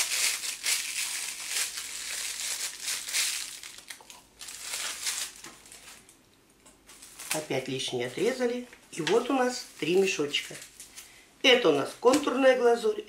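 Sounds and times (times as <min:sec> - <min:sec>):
plastic piping bag crinkling: 0:00.0 - 0:06.2, 0:06.8 - 0:11.1.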